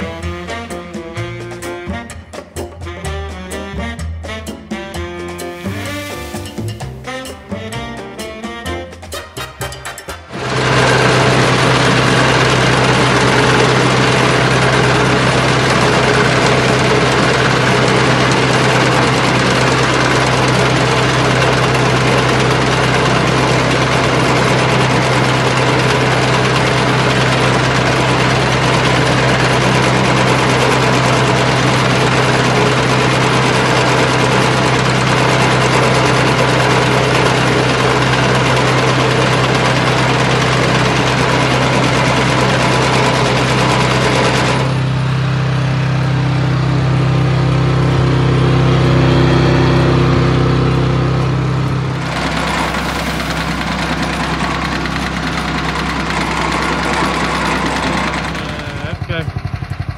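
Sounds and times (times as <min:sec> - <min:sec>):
beach cleaner engine humming: 0:00.0 - 0:03.5, 0:05.1 - 0:08.6, 0:10.2 - 0:59.9.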